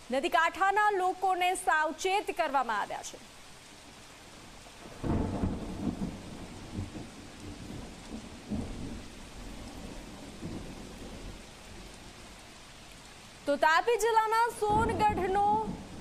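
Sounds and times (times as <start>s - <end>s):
rain: 0.0s - 16.0s.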